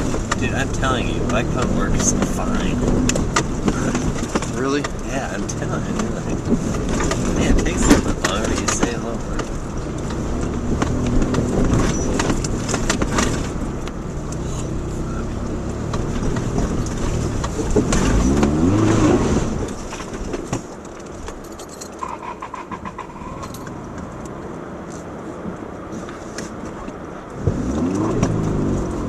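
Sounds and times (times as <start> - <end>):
car engine under load: 0.0 - 29.0
car knocks and rattles: 0.0 - 29.0.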